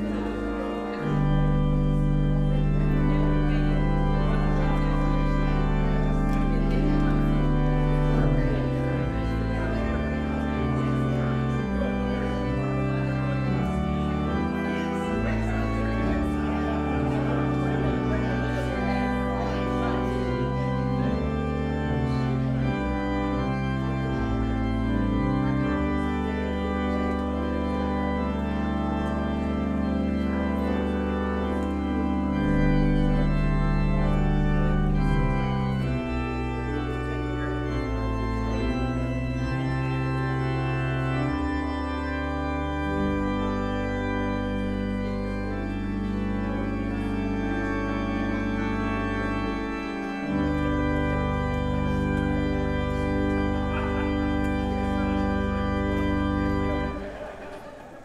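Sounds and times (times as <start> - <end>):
organ playing slow chords: 0.0 - 57.7.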